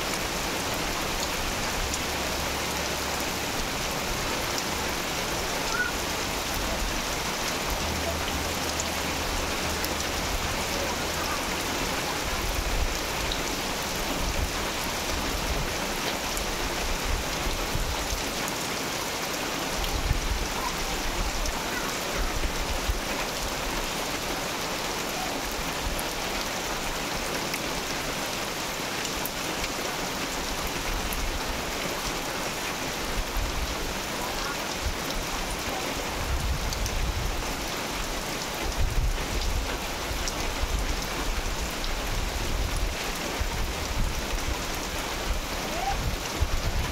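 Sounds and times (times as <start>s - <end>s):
heavy rain on grass: 0.0s - 46.9s.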